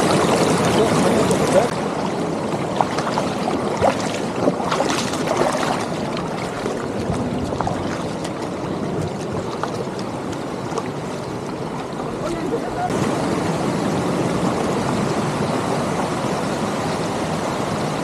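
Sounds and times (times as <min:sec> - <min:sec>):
stony river flowing: 0:00.0 - 0:18.0.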